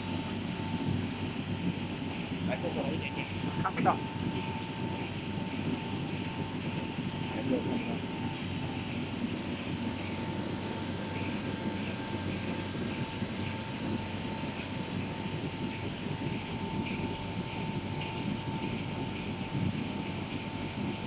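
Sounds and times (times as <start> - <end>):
constant machine whine: 0.0 - 21.0
printing machine rumble: 0.0 - 21.0.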